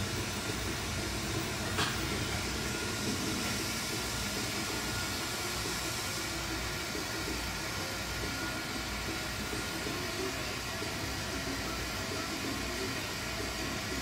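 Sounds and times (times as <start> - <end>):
torch flame hissing: 0.0 - 14.0
ventilation noise: 0.0 - 14.0.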